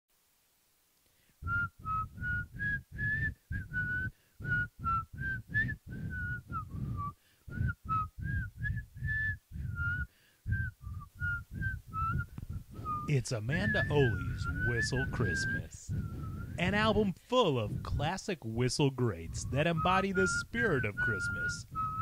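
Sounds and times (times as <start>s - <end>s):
person whistling a tune: 1.4s - 17.1s, 19.3s - 22.0s.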